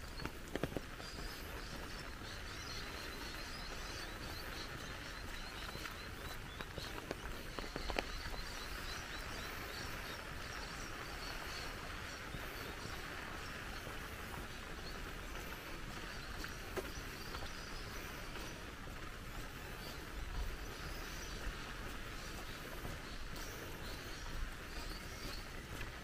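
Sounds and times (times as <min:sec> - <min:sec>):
rushing flowing water: 0:00.0 - 0:26.0
small birds chirping: 0:00.0 - 0:26.0.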